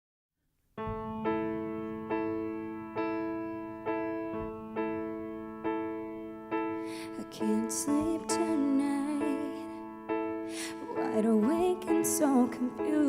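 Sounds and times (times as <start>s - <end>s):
piano chords: 0.8s - 13.0s.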